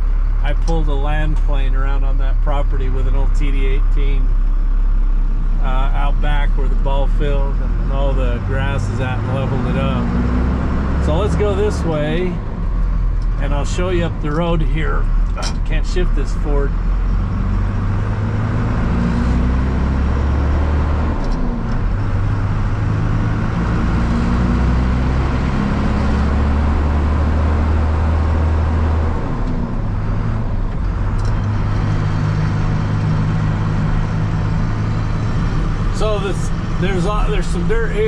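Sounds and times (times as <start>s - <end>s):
tyre and road noise: 0.0s - 38.0s
vehicle engine hum: 0.0s - 38.0s.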